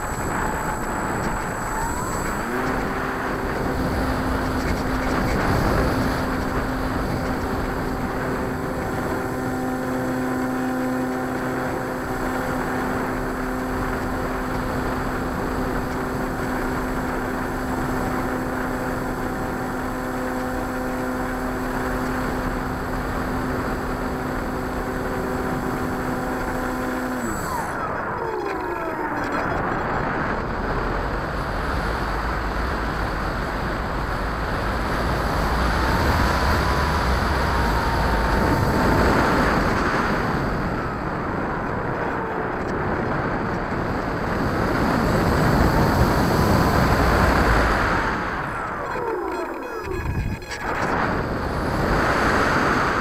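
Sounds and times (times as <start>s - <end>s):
model airplane motor and propeller: 0.0s - 53.0s.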